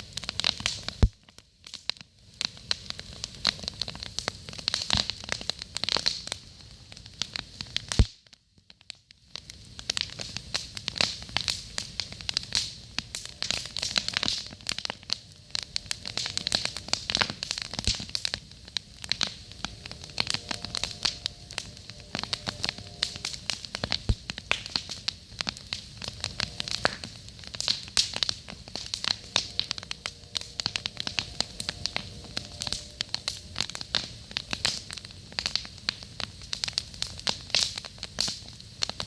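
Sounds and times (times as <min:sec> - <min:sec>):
campfire crackling and popping: 0:00.0 - 0:39.0
steady fire hiss: 0:00.0 - 0:39.0.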